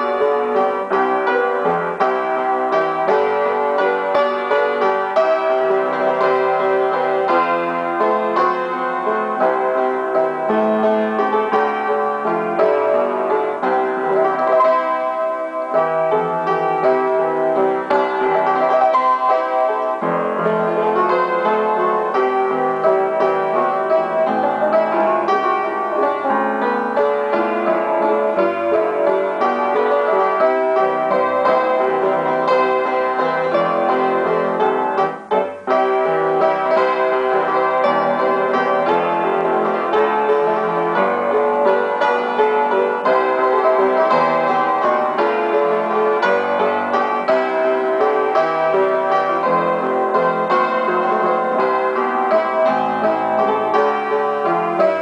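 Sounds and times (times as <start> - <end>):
acoustic piano melody over chords: 0.0 - 55.0.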